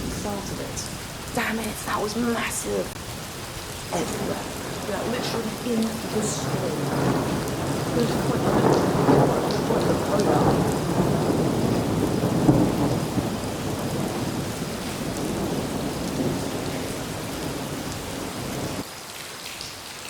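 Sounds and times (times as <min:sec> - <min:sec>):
rolling thunder: 0:00.0 - 0:18.9
heavy rain: 0:00.0 - 0:20.0.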